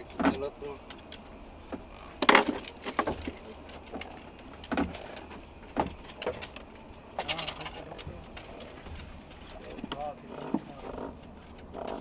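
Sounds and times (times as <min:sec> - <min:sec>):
knocks and thumps on boat: 0:00.0 - 0:12.0.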